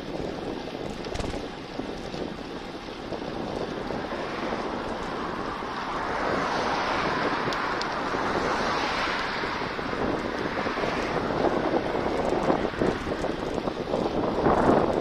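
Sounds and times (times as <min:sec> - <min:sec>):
wind roaring on microphone: 0:00.0 - 0:15.0
cars passing: 0:02.1 - 0:15.0.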